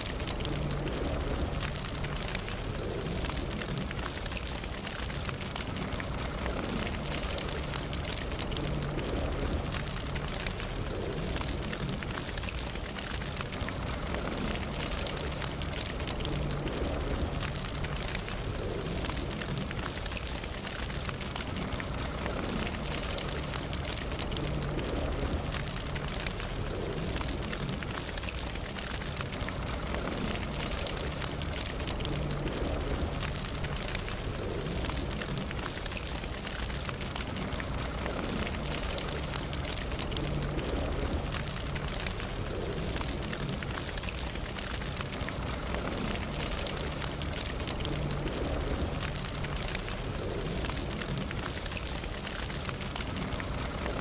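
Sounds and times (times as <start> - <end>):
campfire flames rumbling: 0.0 - 54.0
wood crackling and popping: 0.0 - 54.0.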